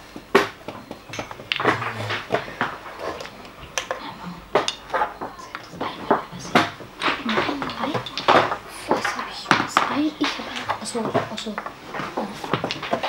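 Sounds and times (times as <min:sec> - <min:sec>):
chess pieces clacking on board: 0:00.9 - 0:04.0, 0:04.6 - 0:13.0.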